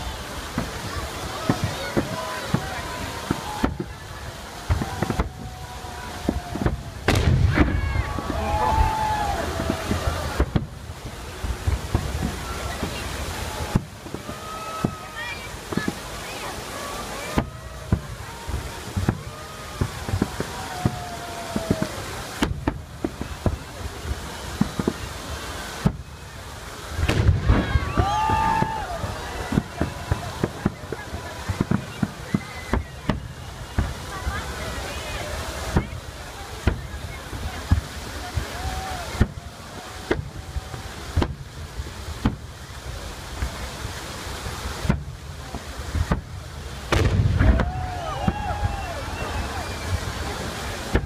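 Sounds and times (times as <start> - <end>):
fireworks bangs: 0.0 - 51.0
rushing fountain water: 0.0 - 51.0.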